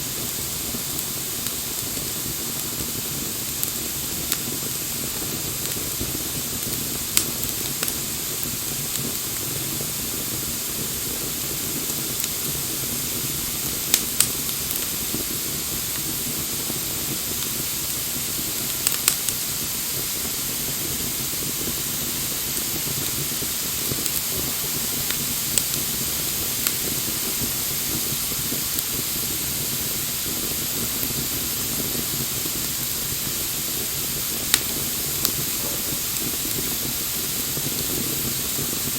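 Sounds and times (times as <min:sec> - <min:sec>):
burning wood popping and crackling: 0:00.0 - 0:38.9
wood fire hissing: 0:00.0 - 0:38.9.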